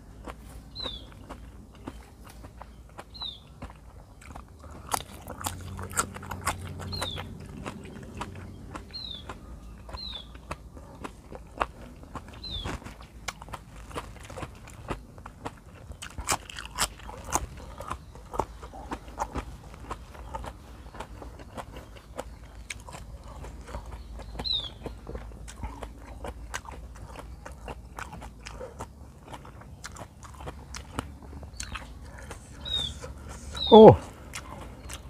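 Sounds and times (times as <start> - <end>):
man chewing: 0.0 - 35.0.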